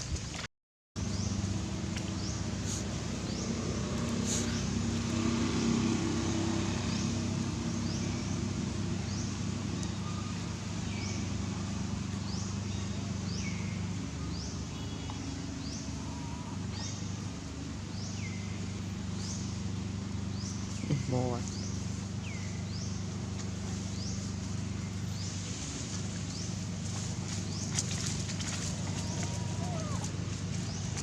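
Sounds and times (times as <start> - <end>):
vehicle engine humming: 1.0 - 31.0.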